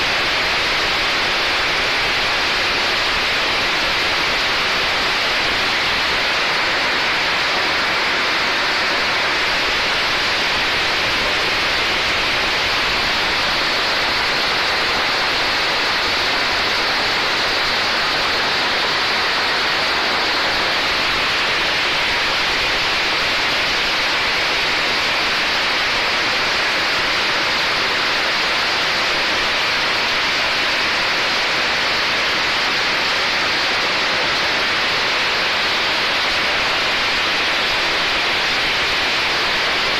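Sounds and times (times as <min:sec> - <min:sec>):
machine water spraying hiss: 0:00.0 - 0:39.9.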